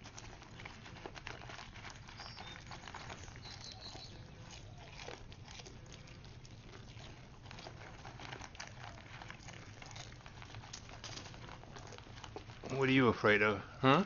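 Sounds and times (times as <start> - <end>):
paper bag crinkling: 0.0 - 13.4.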